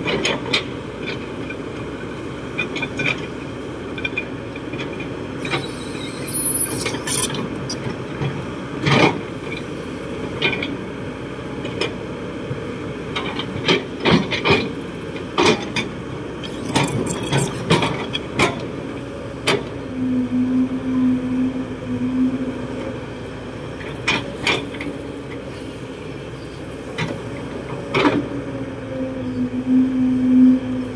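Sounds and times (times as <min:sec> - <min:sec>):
excavator diesel engine under load: 0:00.0 - 0:30.9.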